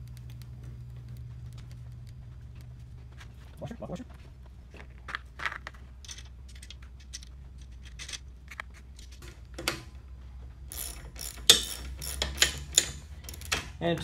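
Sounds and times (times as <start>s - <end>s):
clicks and rustles of parts: 0.0s - 10.0s, 10.7s - 14.0s
low hum: 0.0s - 14.0s.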